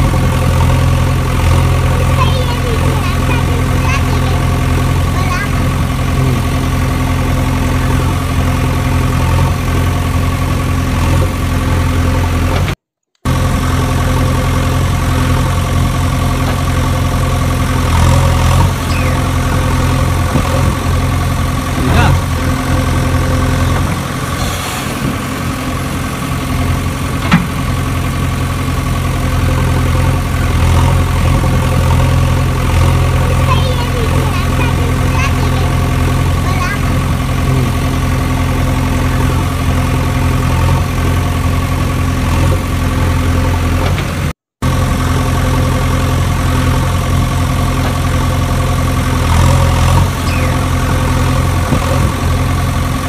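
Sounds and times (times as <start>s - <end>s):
engine idling hum: 0.0s - 53.0s.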